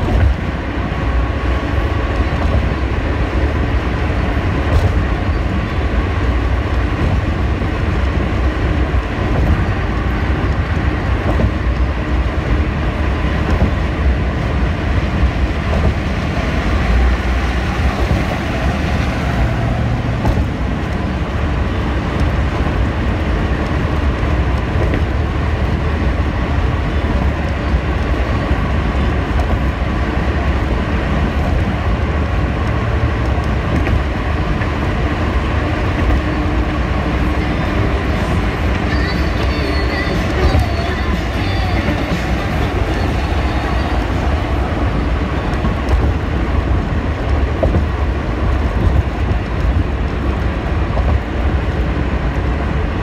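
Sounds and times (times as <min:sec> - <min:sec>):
car road noise at highway speed: 0:00.0 - 0:53.0.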